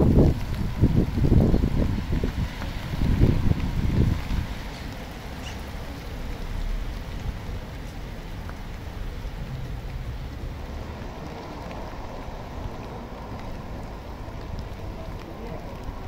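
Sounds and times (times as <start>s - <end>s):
rain falling on wet pavement: 0.0s - 16.0s.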